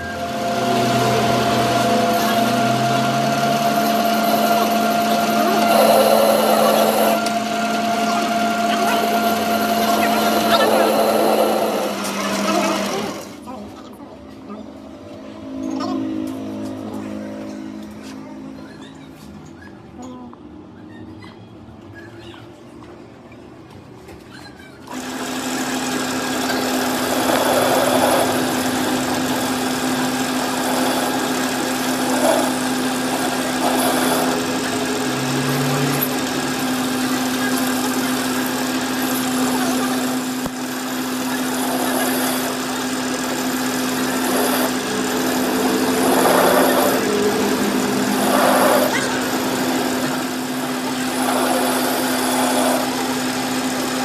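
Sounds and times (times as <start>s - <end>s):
machine humming: 0.0s - 13.6s, 14.6s - 18.6s, 24.9s - 54.0s.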